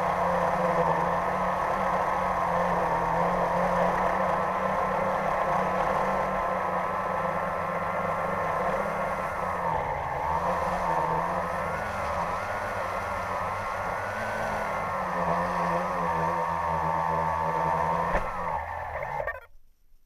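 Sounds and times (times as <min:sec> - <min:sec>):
drone motors whining: 0:00.0 - 0:19.6.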